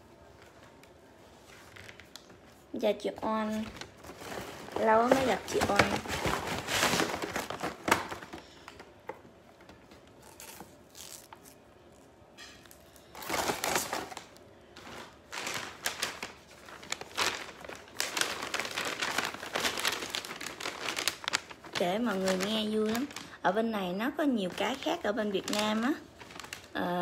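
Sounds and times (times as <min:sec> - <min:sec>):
wrapping paper rustling: 0:00.2 - 0:08.7, 0:10.2 - 0:12.0, 0:12.7 - 0:27.0.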